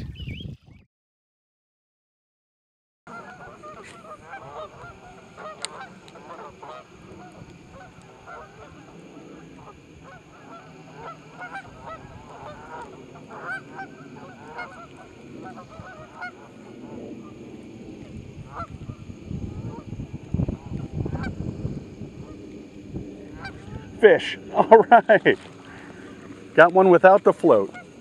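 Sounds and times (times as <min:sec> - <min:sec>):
geese honking: 0:03.1 - 0:28.0.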